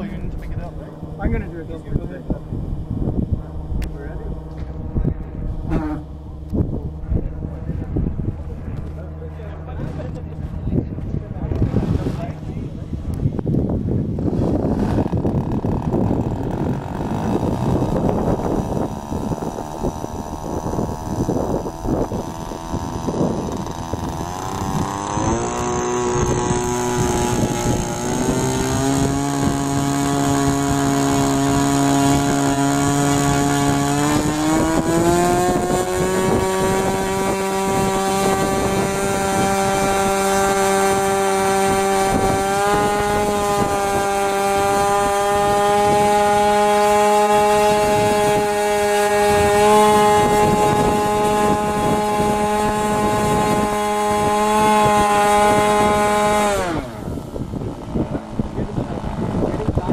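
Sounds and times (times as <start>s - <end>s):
electric starter whirring: 0.0s - 10.6s, 11.5s - 59.9s
model aircraft engine running: 0.0s - 59.9s.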